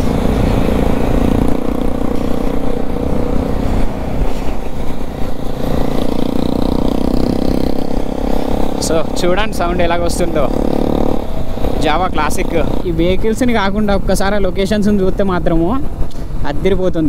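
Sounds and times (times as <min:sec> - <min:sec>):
motorcycle engine running: 0:00.0 - 0:16.0
tyres on wet road: 0:00.0 - 0:16.6
wind rushing over microphone: 0:00.0 - 0:17.0.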